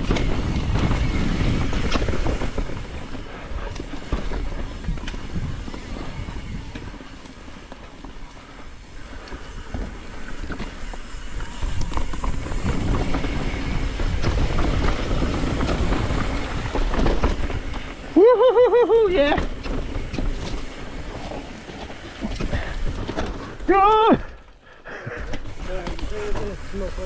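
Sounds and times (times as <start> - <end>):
bike rattling over rocks: 0.0 - 24.5, 25.3 - 27.0.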